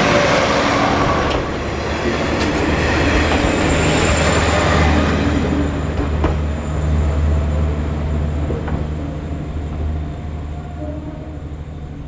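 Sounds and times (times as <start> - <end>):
diesel engine low drone: 0.0 - 12.0.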